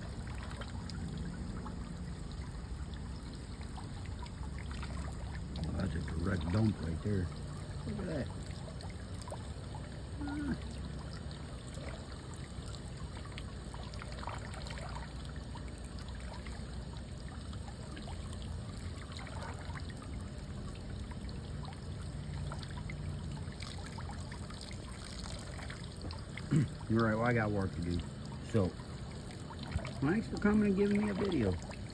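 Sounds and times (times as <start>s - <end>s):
water pouring into the sea: 0.0s - 31.9s.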